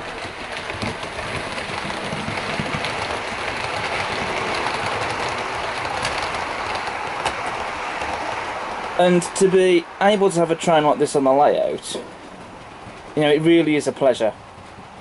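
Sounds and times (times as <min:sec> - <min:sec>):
model train wheels rattling: 0:00.0 - 0:09.6, 0:10.4 - 0:15.0.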